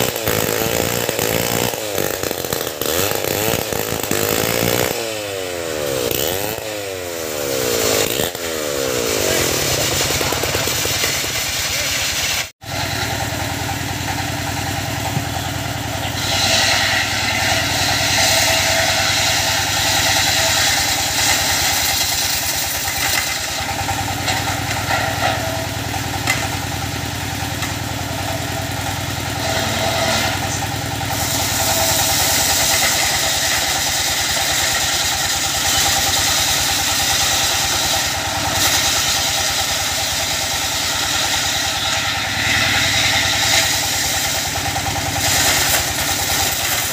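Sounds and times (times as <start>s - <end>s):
circular saw cutting wood: 0.0s - 46.9s.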